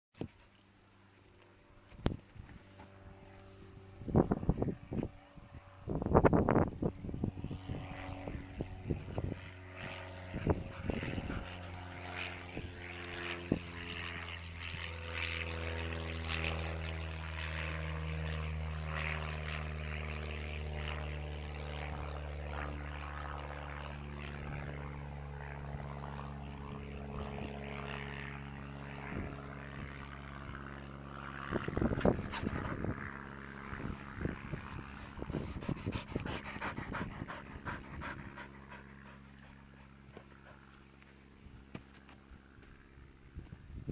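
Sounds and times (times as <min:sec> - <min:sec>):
engine droning: 0:00.3 - 0:43.9.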